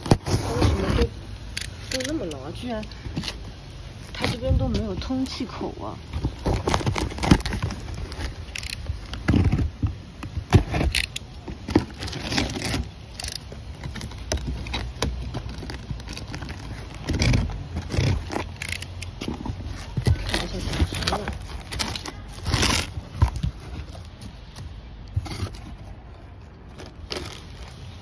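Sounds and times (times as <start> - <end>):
cardboard box rustling: 0.0 - 1.2, 1.9 - 28.0
packing tape ripping: 0.0 - 2.3, 6.2 - 28.0.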